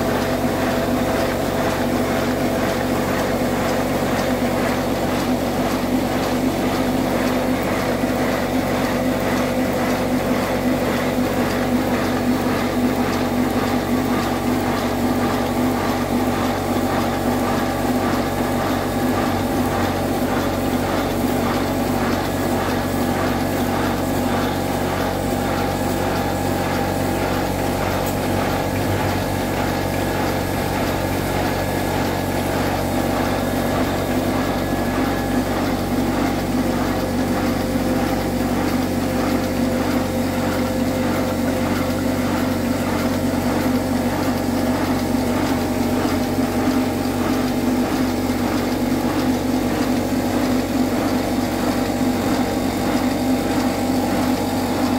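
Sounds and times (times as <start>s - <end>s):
rhythmic air-driven chuffing: 0.0s - 54.9s
steady hum: 7.2s - 53.6s.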